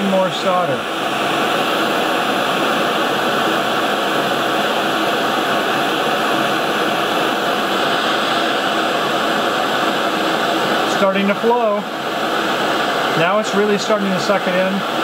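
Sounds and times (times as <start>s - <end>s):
propane torch hissing: 0.0s - 15.0s.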